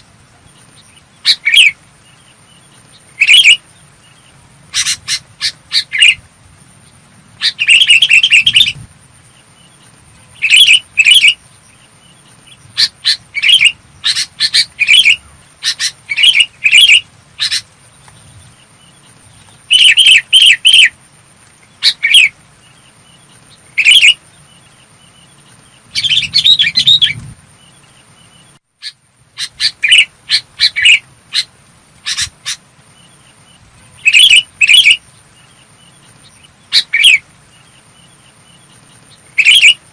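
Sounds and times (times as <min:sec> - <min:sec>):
bulbul singing: 0:00.0 - 0:21.0, 0:21.6 - 0:39.9
faint high-pitched whine: 0:00.0 - 0:39.9.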